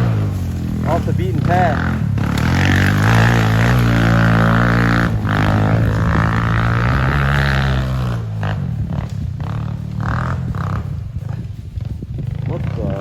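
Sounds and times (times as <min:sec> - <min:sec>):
pit bike engine droning: 0:00.0 - 0:13.0.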